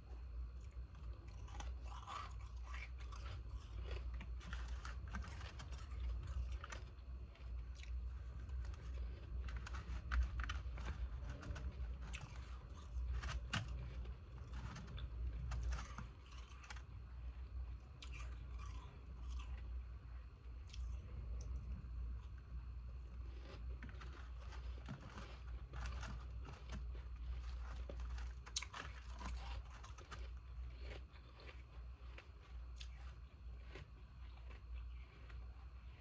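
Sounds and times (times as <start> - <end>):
person chewing and crunching ice: 0.1 - 36.0.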